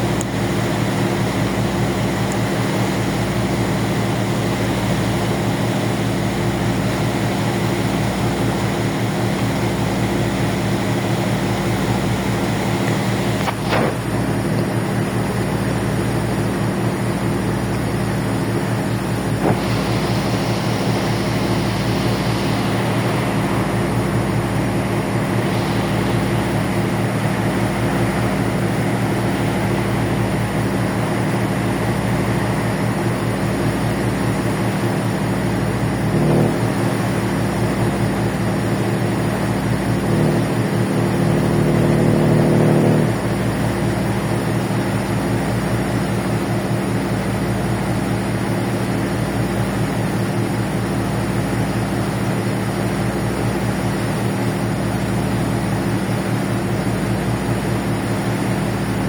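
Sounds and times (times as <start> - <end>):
ferry engines droning: 0.0 - 59.0.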